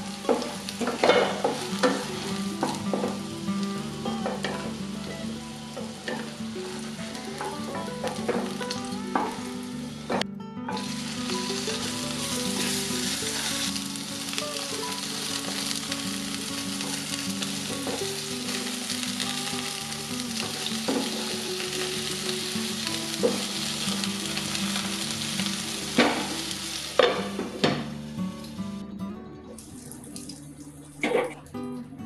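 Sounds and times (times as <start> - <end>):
vegetables sizzling in oil: 0.0 - 28.8.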